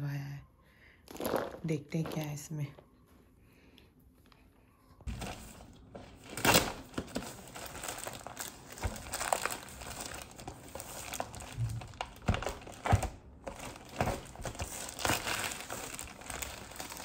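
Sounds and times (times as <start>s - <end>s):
plastic bag crinkling: 1.1s - 2.8s, 5.1s - 17.0s.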